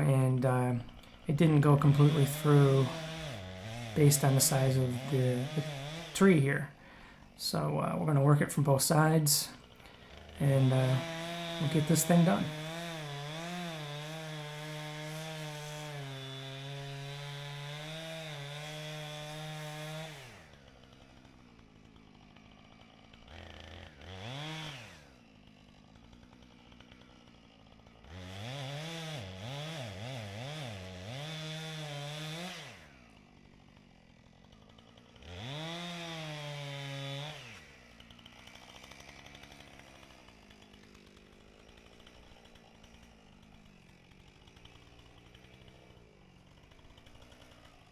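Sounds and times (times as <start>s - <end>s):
chainsaw cutting and revving: 0.0s - 47.9s.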